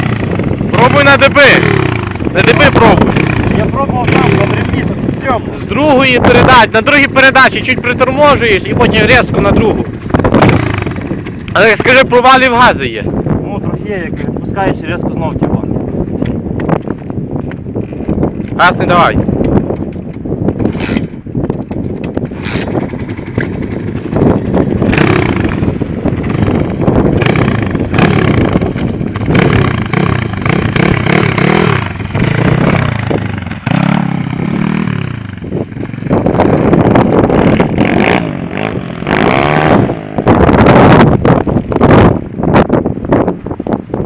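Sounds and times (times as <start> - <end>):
motorbike engine revving: 0.0 - 12.8, 17.7 - 42.8.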